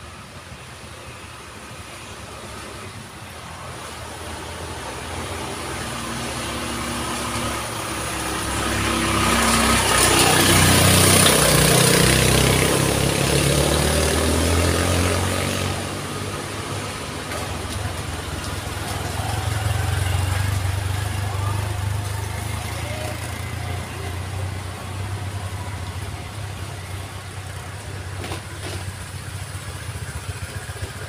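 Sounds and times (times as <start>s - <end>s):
motorcycles passing: 0.1s - 31.0s.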